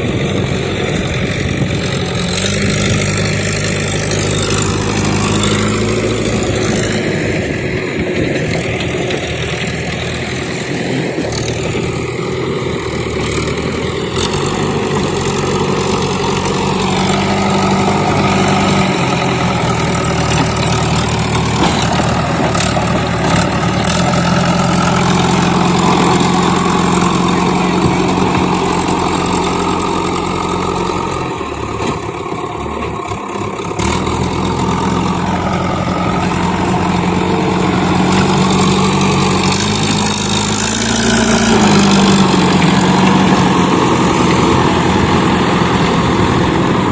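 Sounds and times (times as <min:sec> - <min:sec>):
diesel engines running: 0:00.0 - 0:46.9.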